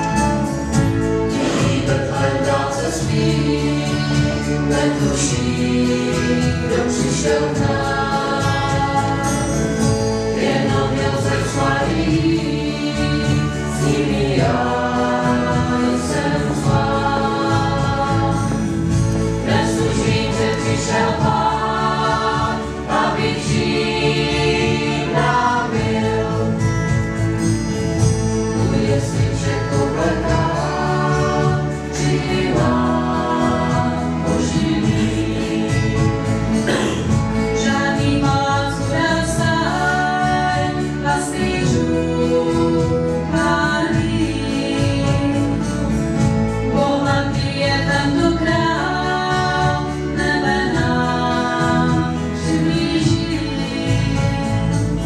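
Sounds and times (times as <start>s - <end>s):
church choir singing: 0.0s - 55.0s
instruments playing along: 0.0s - 55.0s.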